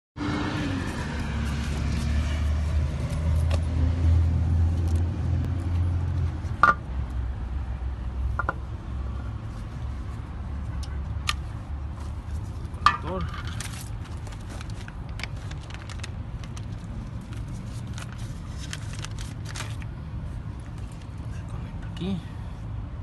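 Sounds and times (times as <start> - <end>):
vehicle engine rumbling: 0.2 - 23.0.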